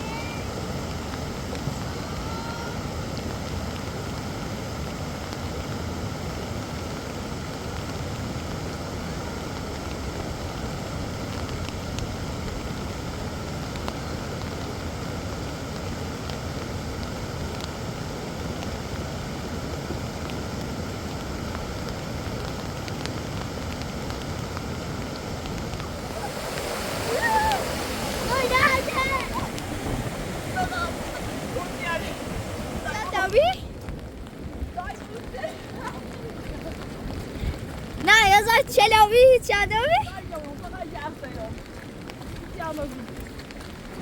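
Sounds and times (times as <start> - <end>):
heavy rain: 0.0 - 44.0
wind: 0.0 - 44.0.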